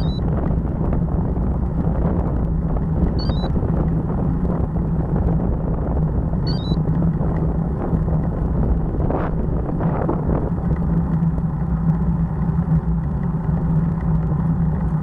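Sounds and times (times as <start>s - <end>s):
bicycle road vibration: 0.0s - 15.0s
wind rumble: 0.0s - 15.0s.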